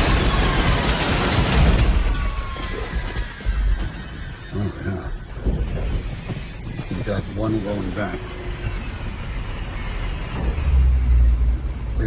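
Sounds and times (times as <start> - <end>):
jet engines winding down: 0.0 - 12.0.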